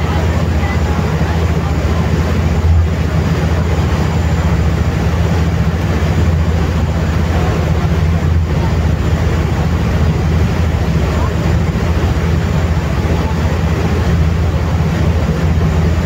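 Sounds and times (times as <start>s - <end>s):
ferry engine droning: 0.0s - 16.0s
propeller wake rushing: 0.0s - 16.0s.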